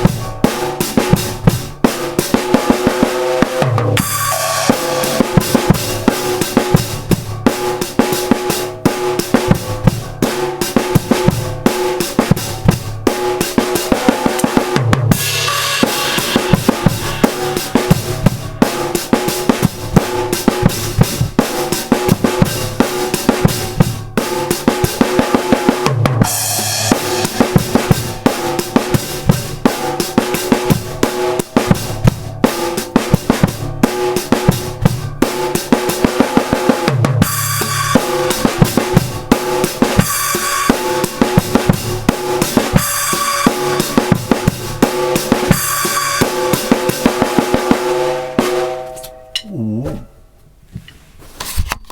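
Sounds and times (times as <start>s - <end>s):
band music with sliding bass: 0.0s - 48.6s
drum kit groove: 0.0s - 51.9s.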